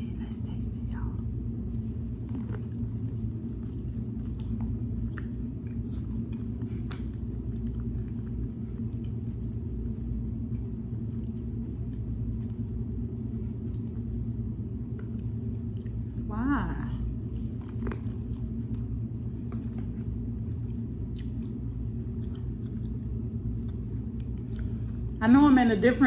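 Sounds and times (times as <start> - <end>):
person chewing corn on the cob: 1.3 - 14.3, 17.2 - 25.2.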